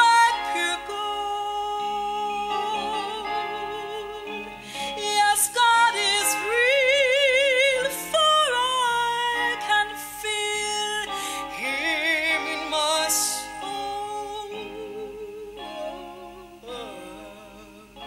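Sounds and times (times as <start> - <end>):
woman singing gospel: 0.0 - 18.0.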